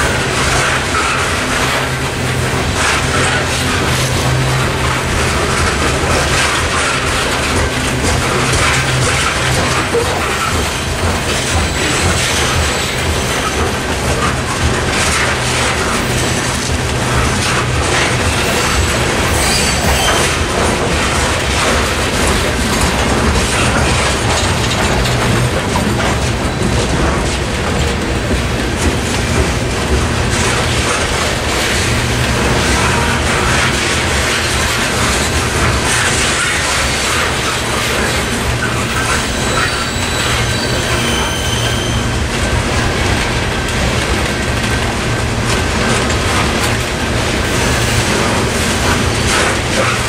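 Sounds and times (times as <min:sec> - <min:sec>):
freight train wheels on rails: 0:00.0 - 0:50.0.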